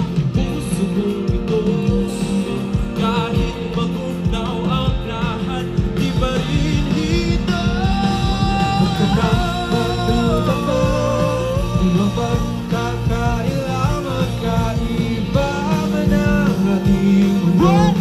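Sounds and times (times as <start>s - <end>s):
live pop-rock band playing: 0.0s - 18.0s
person singing: 0.0s - 18.0s.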